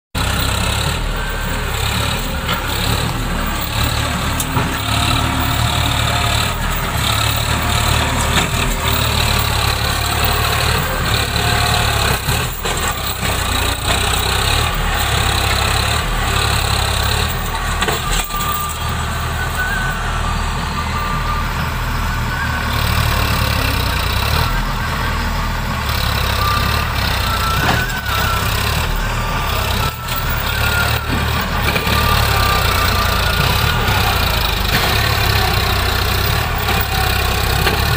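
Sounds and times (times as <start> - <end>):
tractor diesel engine under load: 0.1 - 37.9.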